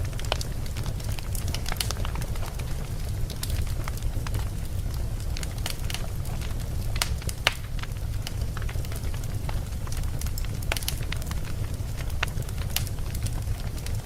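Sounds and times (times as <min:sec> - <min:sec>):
flames rumbling: 0:00.0 - 0:14.0
wood crackling and popping: 0:00.0 - 0:14.0.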